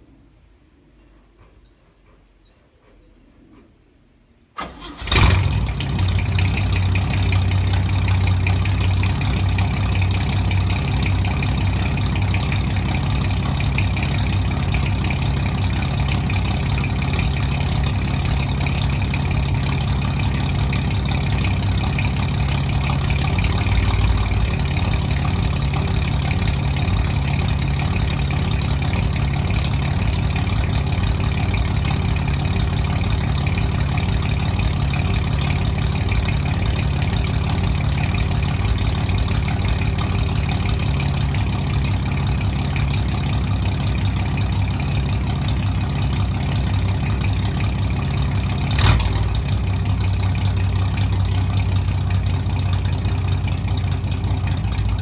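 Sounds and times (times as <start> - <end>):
car engine starting and idling: 4.5 - 55.0.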